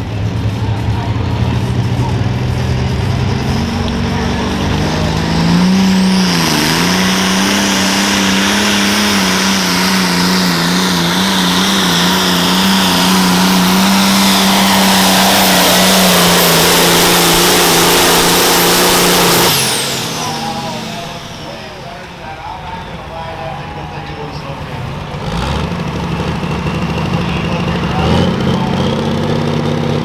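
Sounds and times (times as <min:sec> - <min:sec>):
tractor engine revving: 0:00.0 - 0:30.0.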